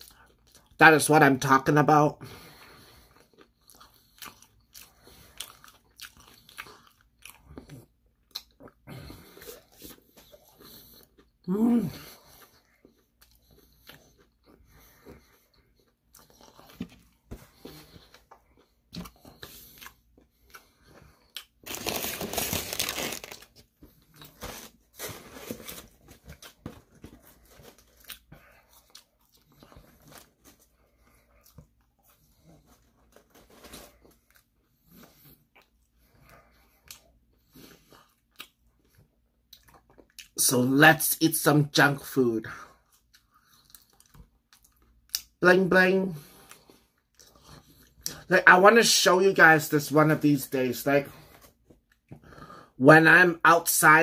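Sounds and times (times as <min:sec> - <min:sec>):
crunchy chewing of fried chicken: 0:02.4 - 0:40.5, 0:42.4 - 0:45.4, 0:46.2 - 0:48.3.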